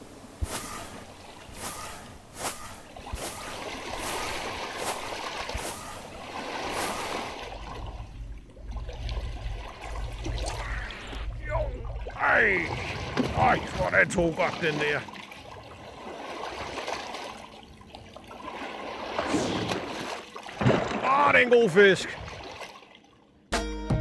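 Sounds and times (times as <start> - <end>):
seawater lapping and splashing: 0.0 - 23.5
short sharp splashes: 0.4 - 23.2.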